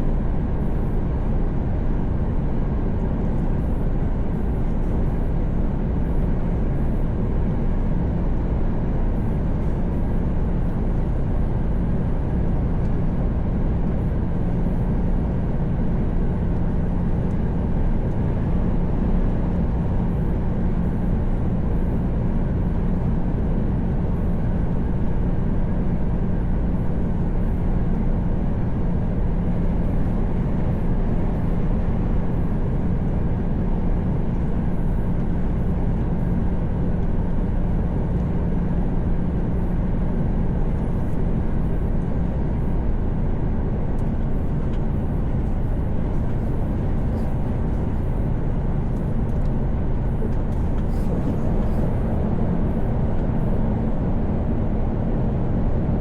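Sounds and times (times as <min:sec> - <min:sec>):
road and tyre noise: 0:00.0 - 0:56.0
truck engine drone: 0:00.0 - 0:56.0.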